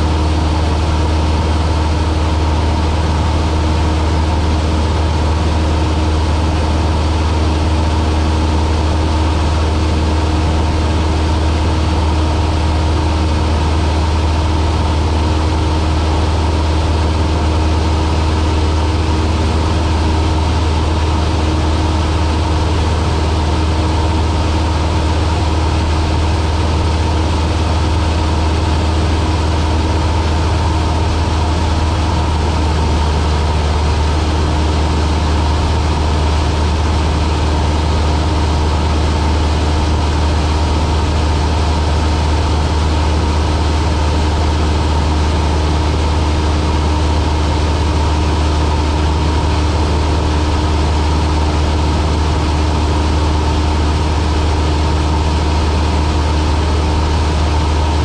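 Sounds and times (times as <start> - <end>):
light aircraft engine droning: 0.0 - 58.0.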